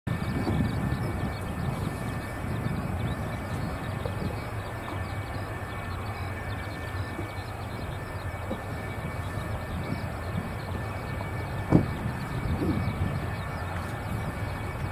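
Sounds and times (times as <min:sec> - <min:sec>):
jet engines idling: 0:00.1 - 0:14.9.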